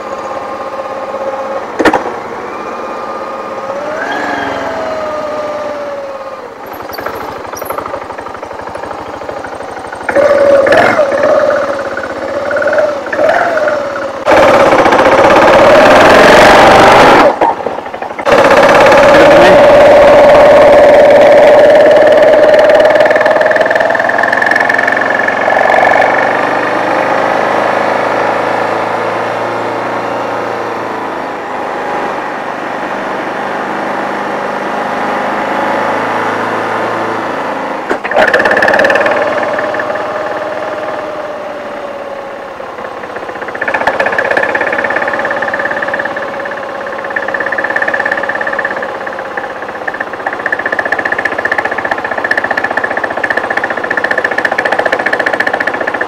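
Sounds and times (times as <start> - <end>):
motorcycle engine running: 0.0 - 31.6, 35.1 - 56.0.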